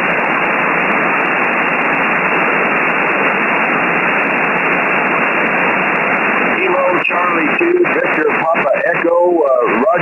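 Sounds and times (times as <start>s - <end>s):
shortwave radio static: 0.0s - 10.0s.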